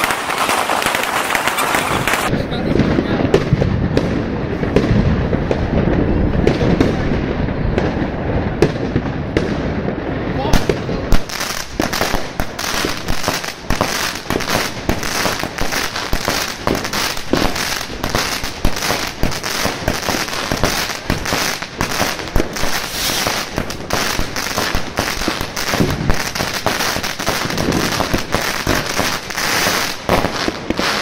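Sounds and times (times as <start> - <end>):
firework pops: 0.0 - 7.0, 10.5 - 31.0
firework crackling stars: 0.0 - 31.0.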